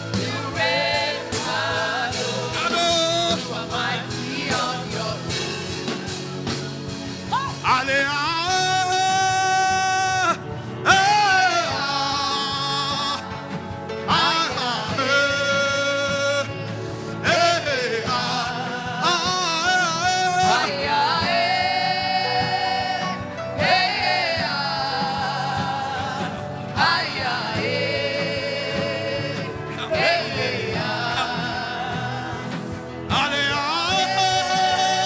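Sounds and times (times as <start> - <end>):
low musical accompaniment: 0.0 - 35.0.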